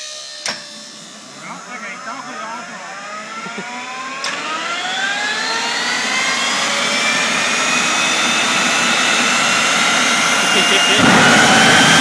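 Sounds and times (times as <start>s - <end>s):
turbine engine whine spooling up: 0.0s - 12.0s.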